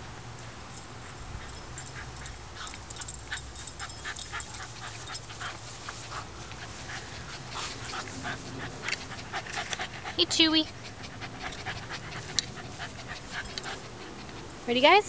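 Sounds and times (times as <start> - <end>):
dog panting: 1.0 - 15.0.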